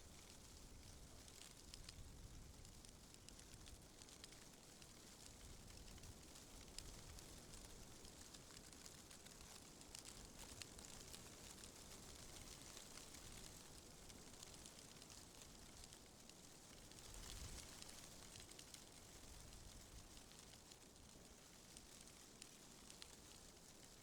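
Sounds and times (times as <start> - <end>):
tree leaves rustling in wind: 0.0 - 24.0.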